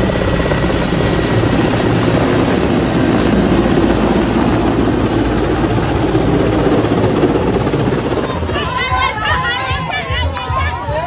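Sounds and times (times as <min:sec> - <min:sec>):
helicopter rotor and engines: 0:00.0 - 0:11.0.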